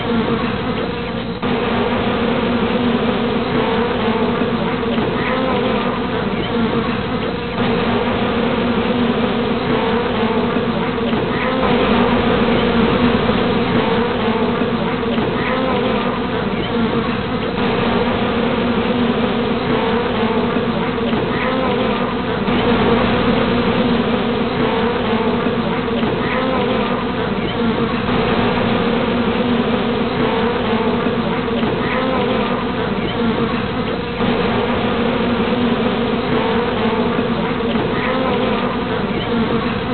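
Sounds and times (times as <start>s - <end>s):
honeybees buzzing: 0.0s - 39.9s.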